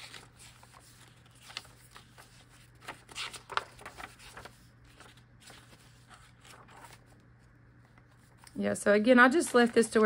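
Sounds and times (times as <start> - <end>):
paper pages rustling: 0.0 - 8.6.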